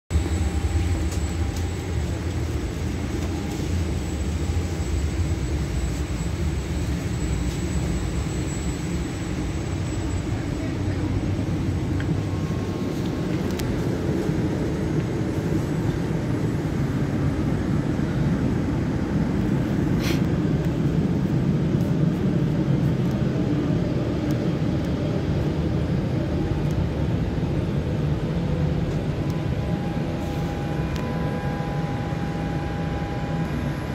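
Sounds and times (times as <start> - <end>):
airplane cabin rumble and hum: 0.1 - 33.9.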